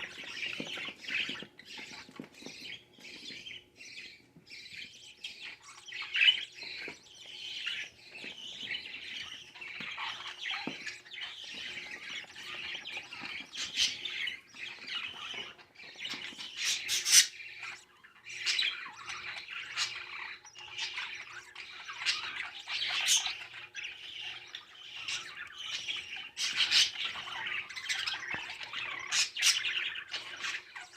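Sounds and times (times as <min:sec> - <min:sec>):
budgerigar chick squawking and chirping: 0:00.0 - 0:30.9.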